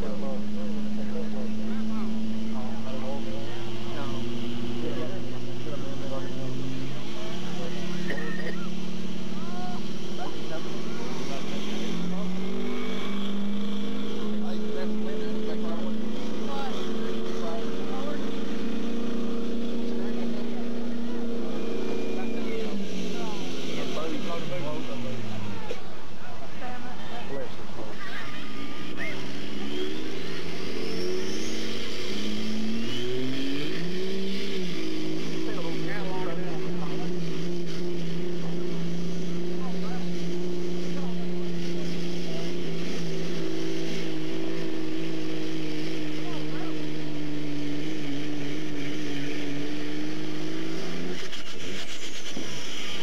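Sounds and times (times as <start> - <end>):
diesel truck engine at high revs: 0.0 - 53.0.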